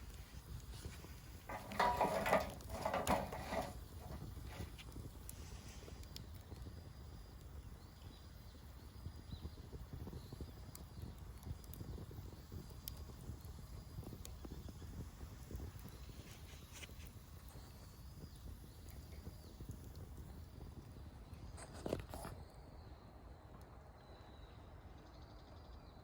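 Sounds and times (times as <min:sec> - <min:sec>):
campfire crackling and popping: 0:00.0 - 0:22.6
low fire rumble: 0:00.0 - 0:24.9.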